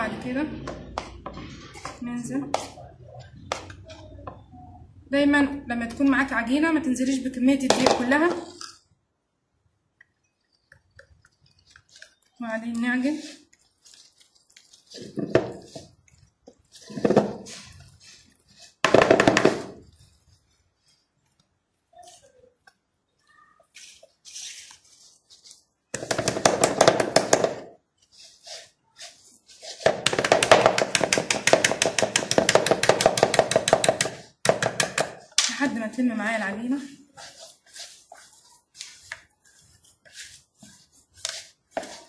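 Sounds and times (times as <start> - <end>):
hands kneading dough: 0.2 - 4.6, 9.6 - 42.0.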